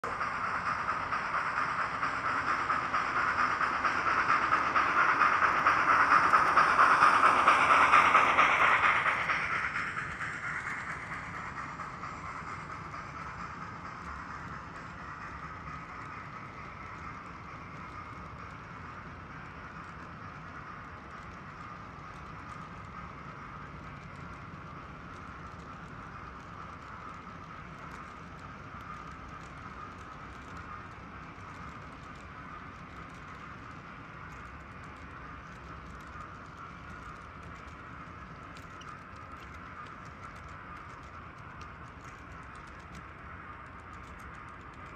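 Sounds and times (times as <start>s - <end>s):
model train running hum: 0.0s - 44.9s
wheels clicking: 0.0s - 44.9s.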